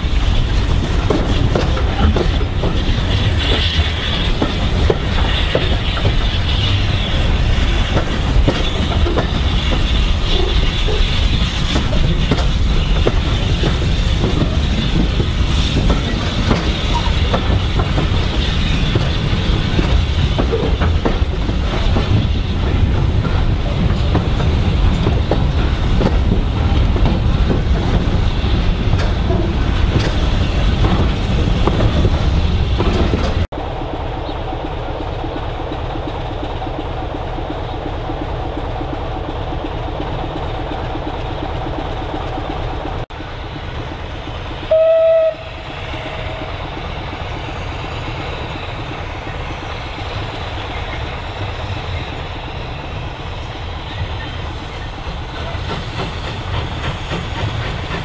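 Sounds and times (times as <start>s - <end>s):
rolling rumble of train coaches: 0.0s - 58.0s
wheels clacking over rail joints: 0.0s - 58.0s.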